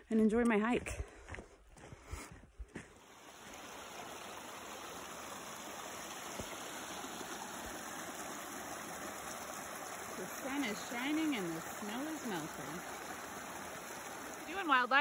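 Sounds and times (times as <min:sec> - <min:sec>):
stream running over rocks: 0:02.8 - 0:15.0.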